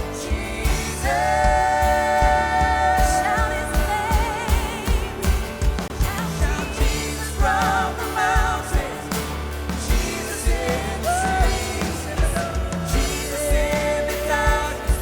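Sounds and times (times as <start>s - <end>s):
drums keeping steady beat: 0.0s - 15.0s
worship band playing: 0.0s - 15.0s.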